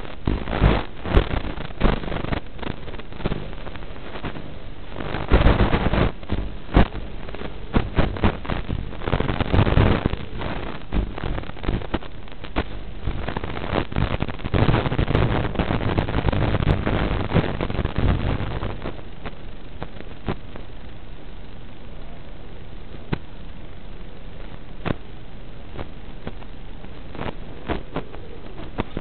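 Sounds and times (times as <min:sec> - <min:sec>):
radio static rushing noise: 0:00.0 - 0:29.0
static crackles and pops: 0:00.0 - 0:29.0.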